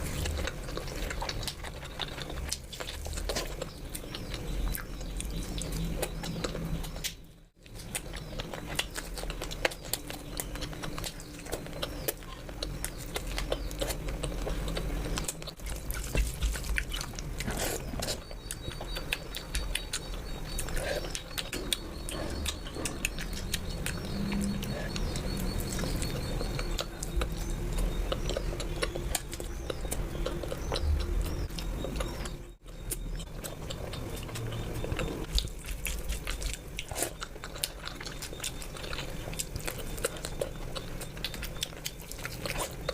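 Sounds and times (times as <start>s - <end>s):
wet chewing and mouth smacking: 0.0s - 42.9s.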